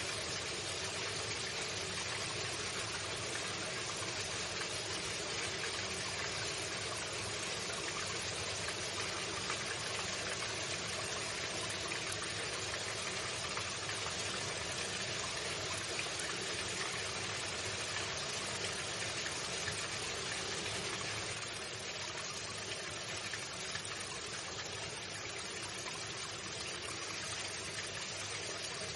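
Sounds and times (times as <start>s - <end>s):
water running: 0.0s - 28.9s.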